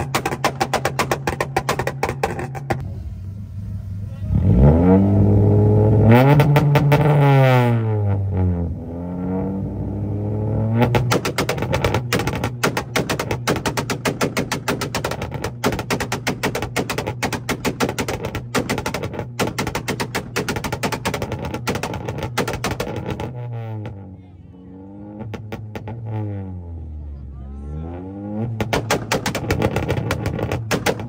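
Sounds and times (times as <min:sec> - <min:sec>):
car engine revving: 0:00.0 - 0:31.0
exhaust bangs: 0:00.0 - 0:31.0.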